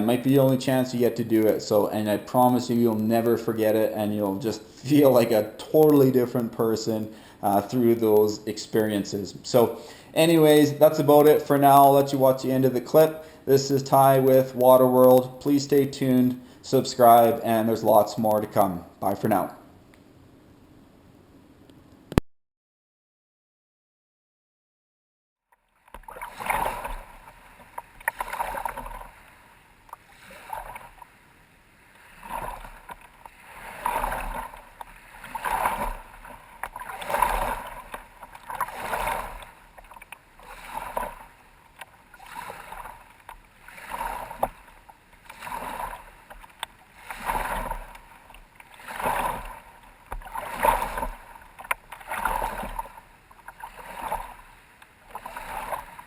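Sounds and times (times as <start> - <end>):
paddle strokes in water: 0.0 - 19.5, 25.6 - 56.0.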